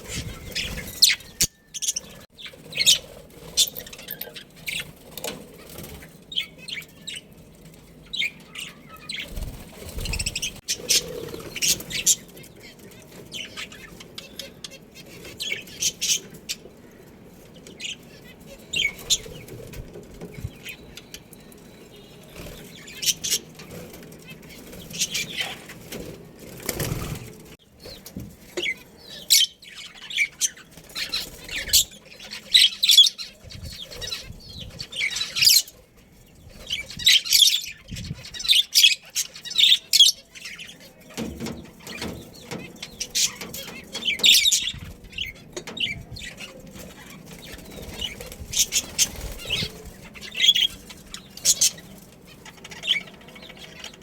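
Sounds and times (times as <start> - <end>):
budgerigars chirping: 0.0 - 7.3, 8.1 - 17.0, 17.6 - 23.9, 24.5 - 25.8, 27.8 - 35.8, 36.6 - 54.0.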